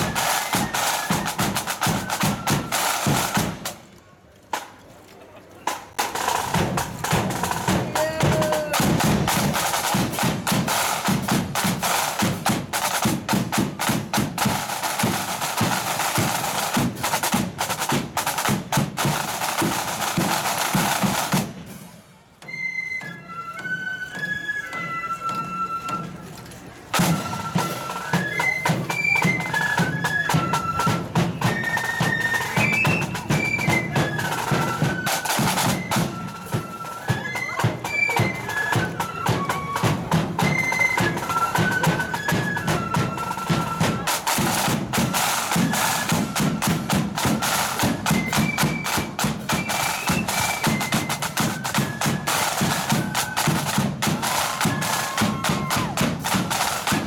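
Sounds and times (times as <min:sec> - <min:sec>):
flutes playing melody: 0:00.0 - 0:03.8, 0:06.0 - 0:57.0
snare drums beating: 0:00.0 - 0:03.8, 0:05.7 - 0:21.8, 0:26.9 - 0:57.0.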